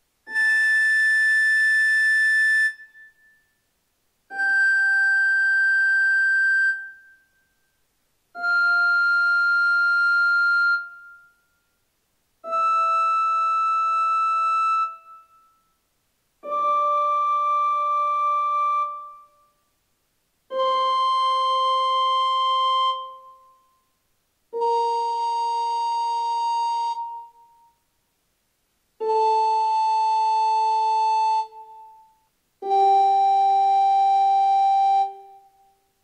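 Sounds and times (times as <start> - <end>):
recorder playing held notes: 0.3 - 3.4, 4.3 - 7.5, 8.4 - 11.6, 12.4 - 15.7, 16.4 - 19.5, 20.5 - 23.8, 24.5 - 27.8, 29.0 - 35.8.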